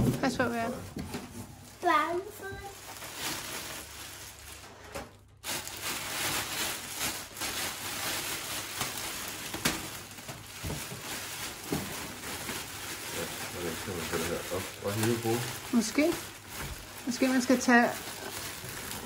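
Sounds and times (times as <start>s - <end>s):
packaging crackling and rustling: 0.0s - 19.0s.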